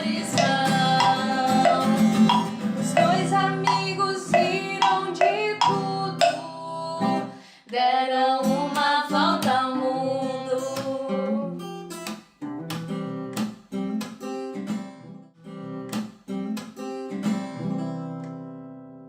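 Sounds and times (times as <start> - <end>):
acoustic guitar strumming: 0.0 - 7.4, 8.4 - 19.0.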